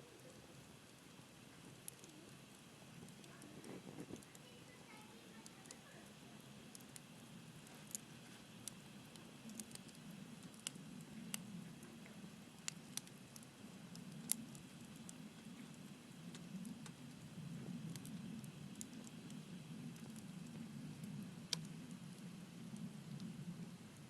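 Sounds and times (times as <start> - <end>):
low steady rumble: 0.0 - 24.0
wood fire crackling and popping: 0.1 - 24.0.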